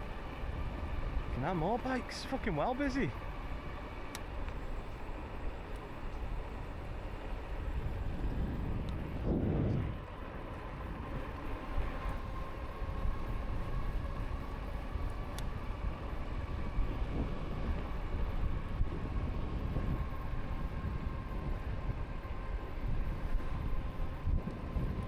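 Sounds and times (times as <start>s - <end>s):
faint motor whine: 0.0s - 25.0s
wind noise: 0.0s - 25.0s.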